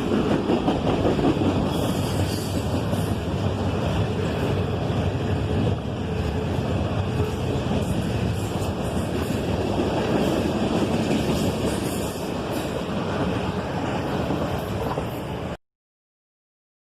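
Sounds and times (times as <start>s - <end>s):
train wheels rumbling on rail: 0.0s - 15.6s.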